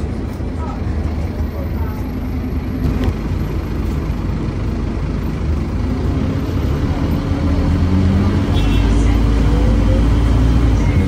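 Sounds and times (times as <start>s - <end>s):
bus diesel engine running: 0.0s - 11.0s
road noise: 0.0s - 11.0s.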